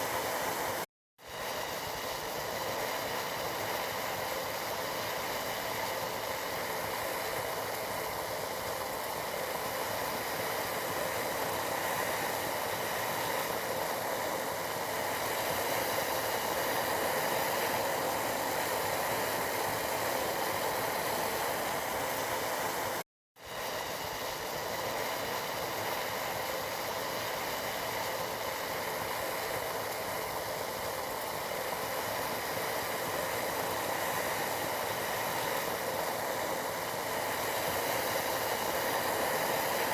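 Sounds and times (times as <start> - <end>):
tea boiling in a pot: 0.0 - 39.9.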